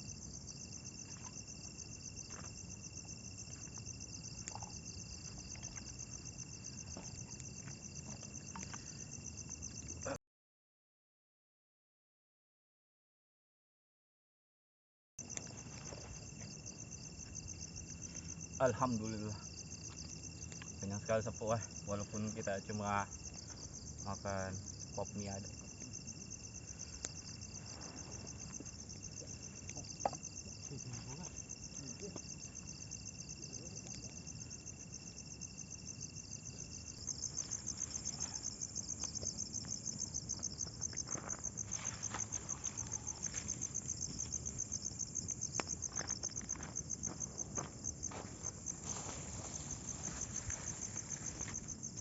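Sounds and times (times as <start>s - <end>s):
crickets chirping: 0.0s - 10.2s, 15.2s - 52.0s.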